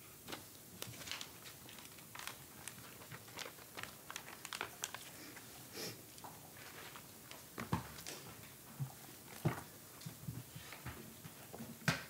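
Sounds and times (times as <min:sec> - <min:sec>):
papers rustling: 0:00.2 - 0:10.9.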